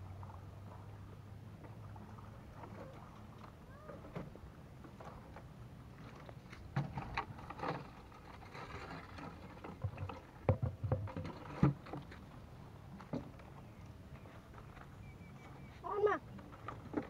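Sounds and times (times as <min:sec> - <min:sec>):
light water splashing: 0:00.0 - 0:17.0.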